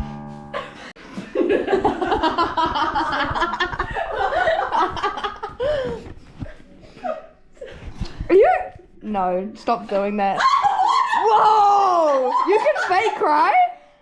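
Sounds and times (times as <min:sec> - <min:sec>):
girls laughing and giggling: 0:00.5 - 0:08.9, 0:10.2 - 0:13.7.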